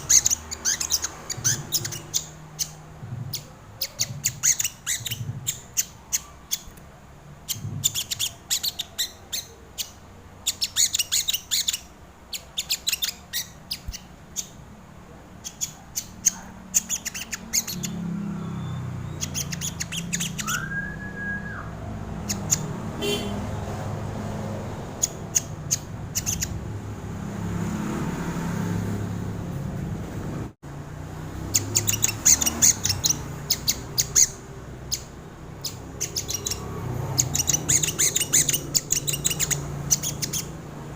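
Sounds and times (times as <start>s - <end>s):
sunbird high chirps: 0.0s - 6.7s, 7.4s - 14.6s, 15.4s - 23.4s, 24.8s - 26.8s, 31.5s - 40.6s.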